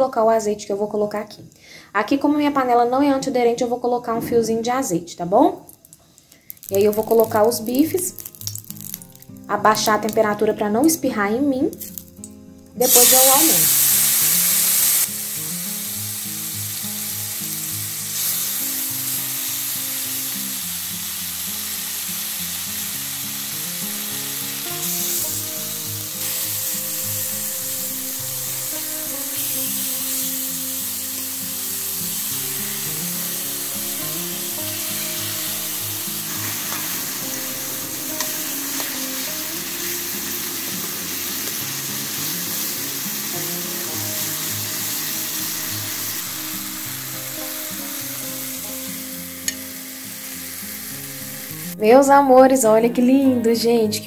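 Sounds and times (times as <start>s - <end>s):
meat sizzling in a pan: 6.4s - 10.2s, 11.7s - 51.8s.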